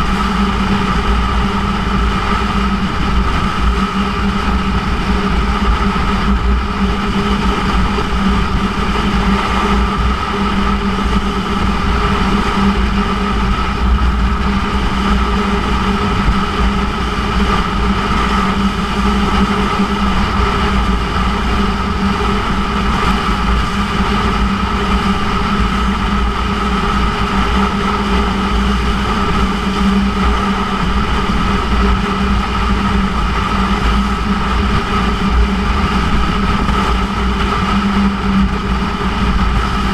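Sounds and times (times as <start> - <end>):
motorcycle engine running steadily: 0.0 - 39.9
wind rumbling over microphone: 0.0 - 39.9.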